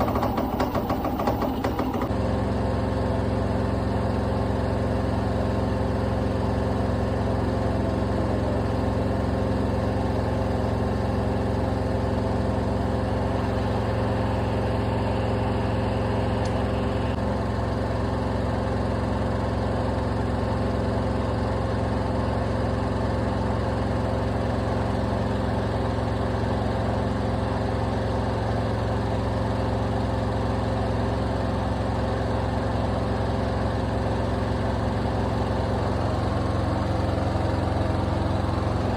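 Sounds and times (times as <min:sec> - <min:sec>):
washing machine spin cycle: 0:00.0 - 0:38.9.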